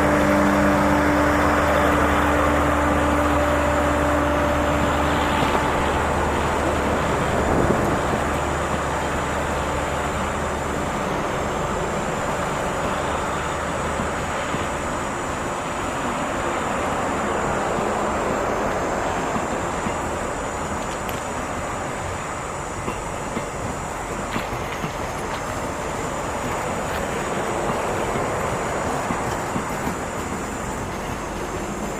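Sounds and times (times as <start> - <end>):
diesel locomotive hum: 0.0 - 31.9
train wheels rumbling: 0.0 - 31.9.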